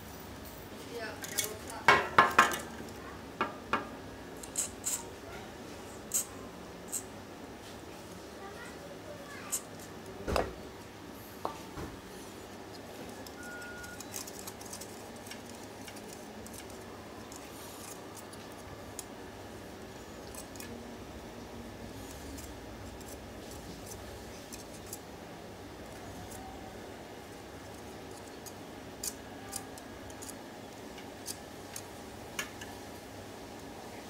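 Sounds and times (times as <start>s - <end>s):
laptop fan whirring: 0.0s - 34.0s.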